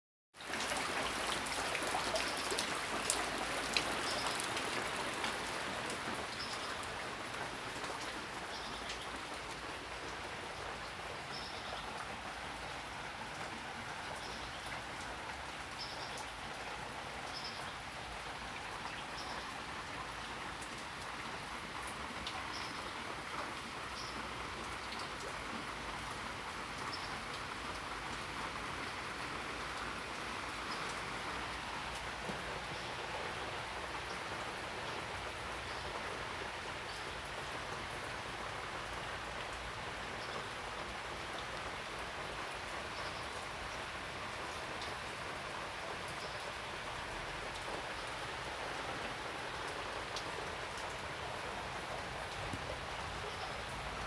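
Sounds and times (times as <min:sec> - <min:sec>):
steady rain falling: 0:00.4 - 0:54.0.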